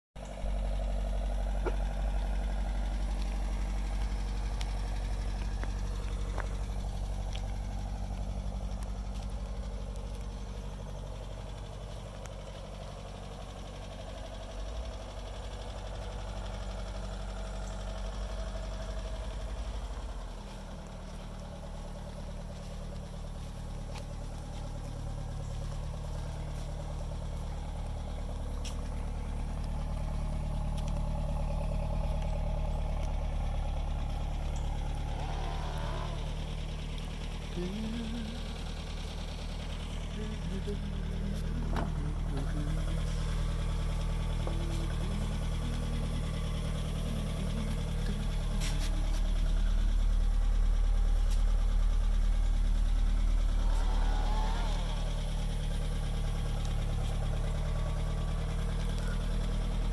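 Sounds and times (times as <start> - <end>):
car engine idling: 0.2 - 59.9.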